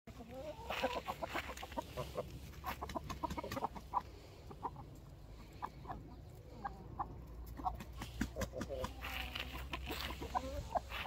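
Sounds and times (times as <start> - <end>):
chickens clucking: 0.1 - 11.0.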